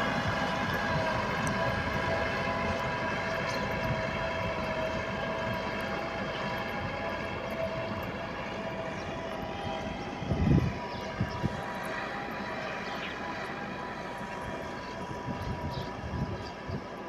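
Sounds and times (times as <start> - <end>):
tractor diesel engine running: 0.0 - 16.2.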